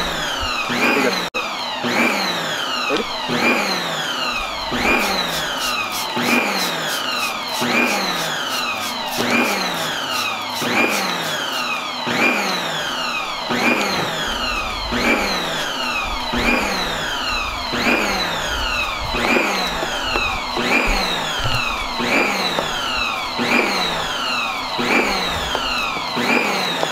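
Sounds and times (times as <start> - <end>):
electronic music with siren sweep: 0.0 - 26.8.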